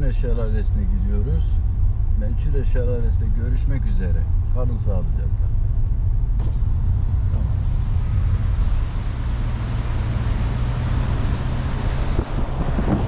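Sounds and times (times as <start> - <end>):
car engine and road rumble: 0.0 - 13.0
constant low hum: 0.0 - 13.0
road and wind noise: 0.0 - 13.0.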